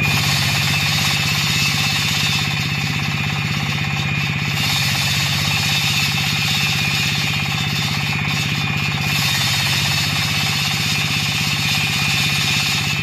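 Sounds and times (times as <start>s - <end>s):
diesel engine running under load: 0.0s - 13.0s
saw blade grinding concrete: 0.0s - 13.0s.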